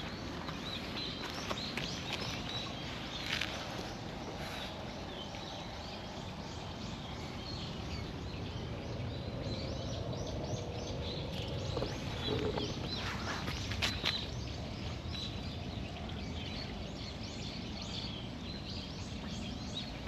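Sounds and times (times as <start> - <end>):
distant low rumble: 0.0 - 17.6
bird chirping: 0.0 - 20.0.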